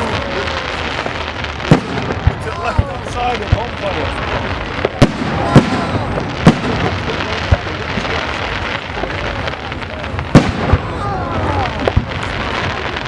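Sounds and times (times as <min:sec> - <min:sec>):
crowd voices: 0:00.0 - 0:13.0
fireworks bursting: 0:00.0 - 0:13.0.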